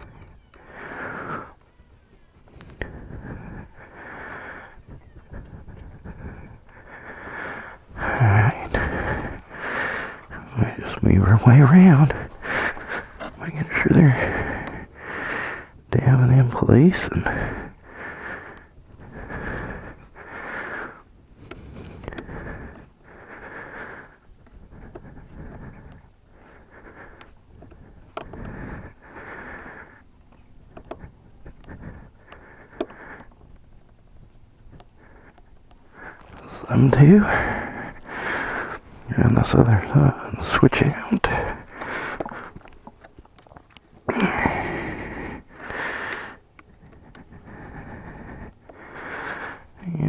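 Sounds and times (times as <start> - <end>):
person breathing loudly: 2.7 - 15.8, 17.0 - 30.1, 34.7 - 50.0.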